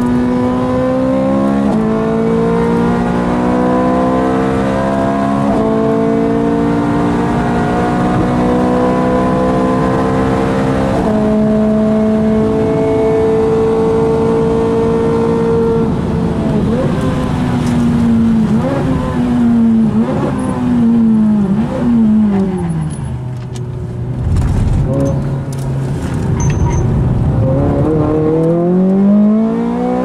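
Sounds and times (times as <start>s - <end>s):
car engine revving in cabin: 0.0s - 23.0s, 24.1s - 30.0s.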